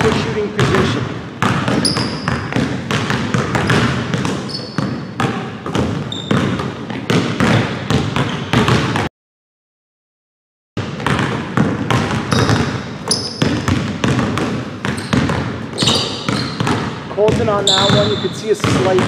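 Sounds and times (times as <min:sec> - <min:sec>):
sneaker squeaks: 0:00.0 - 0:09.0, 0:12.1 - 0:19.0
basketballs bouncing on wooden floor: 0:00.0 - 0:09.1, 0:10.8 - 0:19.0.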